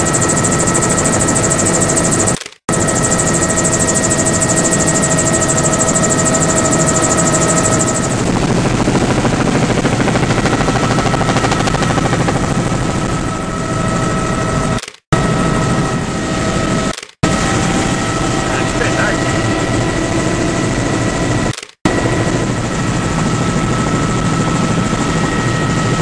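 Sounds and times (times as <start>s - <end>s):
helicopter rotor beat: 0.0s - 26.0s
turbine whine: 0.0s - 26.0s.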